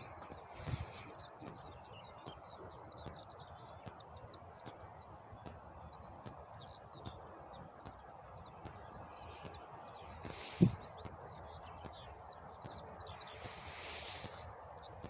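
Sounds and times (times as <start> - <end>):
faint background noise: 0.0 - 15.0
songbird chirping: 0.0 - 15.0.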